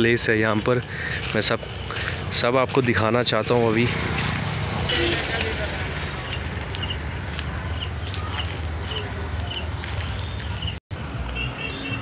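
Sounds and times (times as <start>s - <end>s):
insects chirping: 0.9s - 10.8s.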